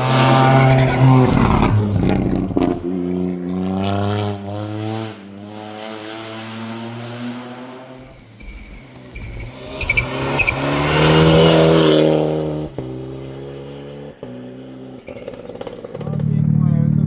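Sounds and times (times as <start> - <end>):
rally car passing at speed: 0.0 - 17.0.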